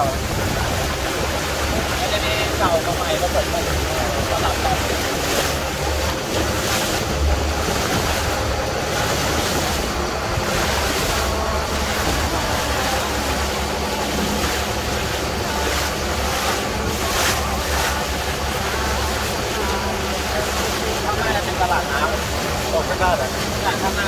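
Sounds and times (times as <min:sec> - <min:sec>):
wind buffeting microphone: 0:00.0 - 0:21.2
motorboat engine rumble: 0:00.0 - 0:24.0
rushing water: 0:00.0 - 0:24.0.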